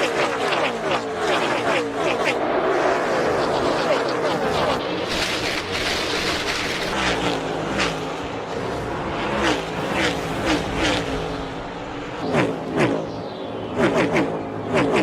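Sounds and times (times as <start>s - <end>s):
race car engines passing by: 0.0s - 15.0s.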